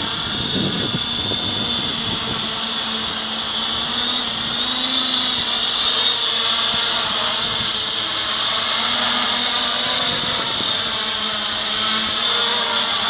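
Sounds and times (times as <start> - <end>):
wind buffeting microphone: 0.0 - 5.8, 6.4 - 12.4
drone motors whining: 0.0 - 13.0.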